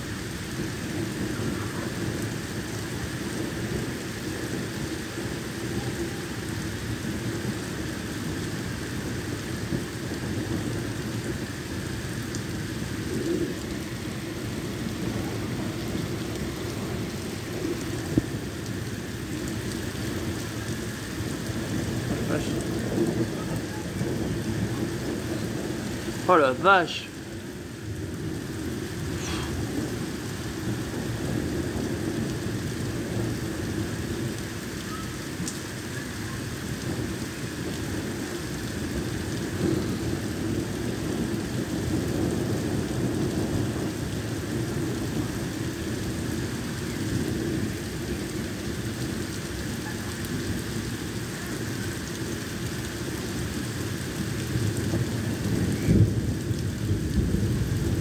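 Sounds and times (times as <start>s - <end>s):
heavy rain on a wet street: 0.0s - 58.0s
thunder rumbling: 0.1s - 58.0s.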